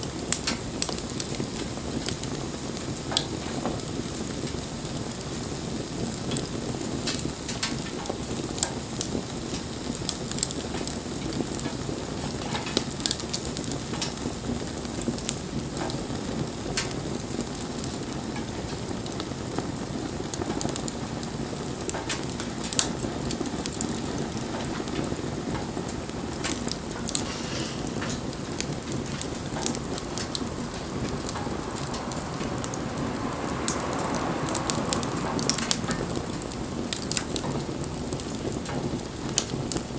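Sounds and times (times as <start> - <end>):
bonfire flames hissing: 0.0 - 39.9
fire crackles and pops: 0.0 - 39.9.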